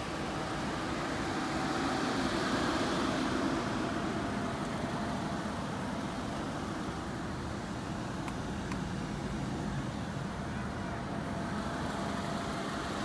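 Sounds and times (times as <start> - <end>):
car engine rumble: 0.0 - 13.0
outdoor hiss: 0.0 - 13.0.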